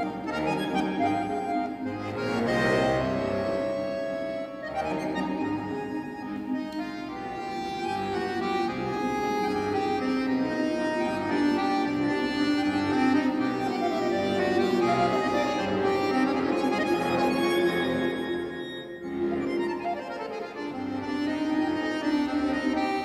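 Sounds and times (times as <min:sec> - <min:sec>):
solo accordion playing: 0:00.0 - 0:23.0.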